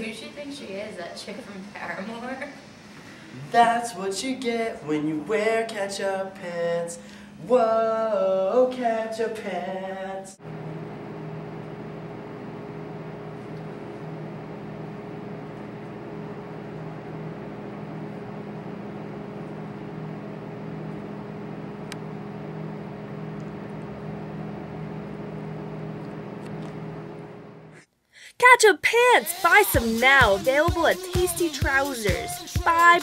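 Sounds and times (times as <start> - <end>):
low mechanical hum: 0.0 - 27.9.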